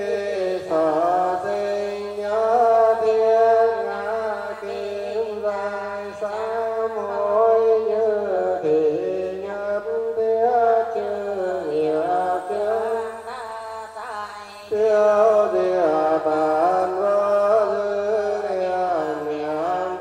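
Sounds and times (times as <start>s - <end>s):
chant-like sustained melody: 0.0s - 20.0s.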